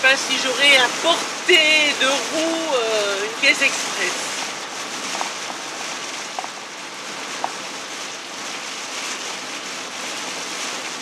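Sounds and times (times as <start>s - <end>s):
rain and tyres on wet road: 0.0s - 11.0s.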